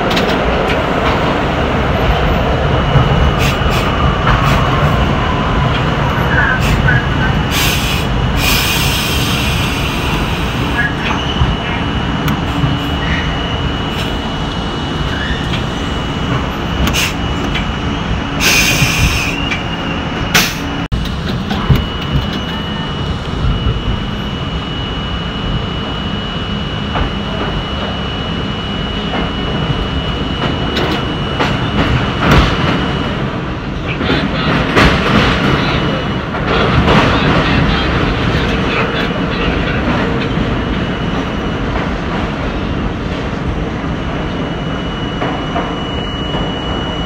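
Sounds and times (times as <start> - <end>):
high whine: 0.0 - 34.6, 35.6 - 47.0
train rumbling: 0.0 - 47.0.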